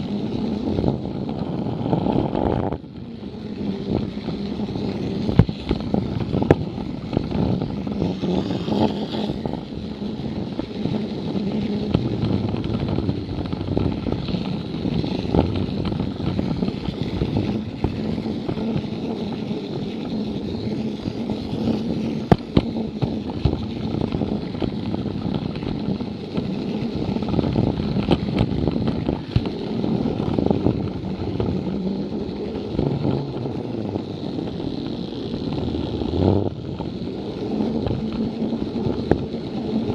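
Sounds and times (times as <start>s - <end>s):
toy train motor whirring: 0.0s - 39.9s
wheels rumbling on plastic track: 0.0s - 39.9s.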